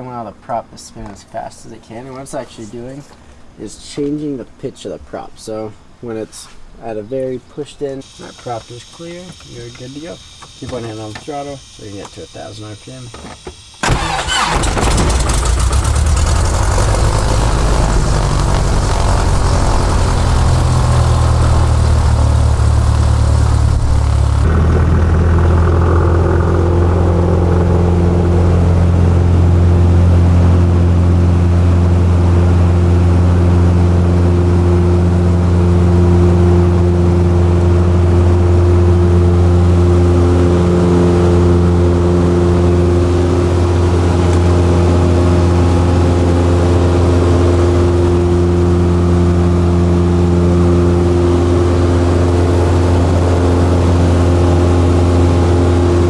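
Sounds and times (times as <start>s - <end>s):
light aircraft engine droning: 8.0s - 56.0s.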